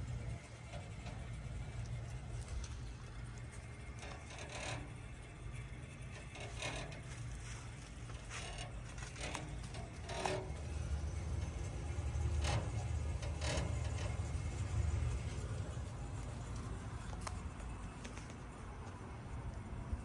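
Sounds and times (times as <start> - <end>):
heat pump humming: 0.0 - 20.0
light clicks and rattles: 0.0 - 20.0.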